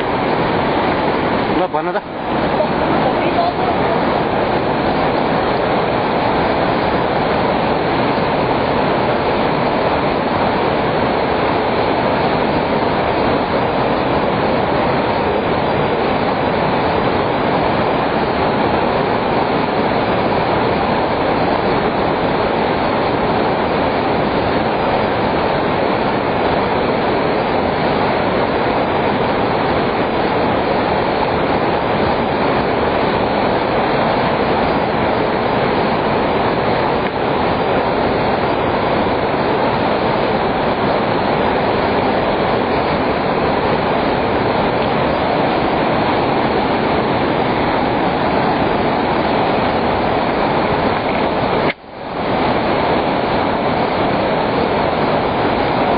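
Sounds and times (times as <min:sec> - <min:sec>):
fast river rushing: 0:00.0 - 0:55.9.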